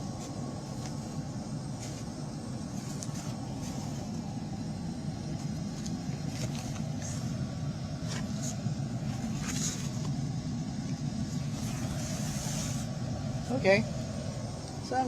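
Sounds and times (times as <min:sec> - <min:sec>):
air handler blower rumbling: 0:00.0 - 0:15.0.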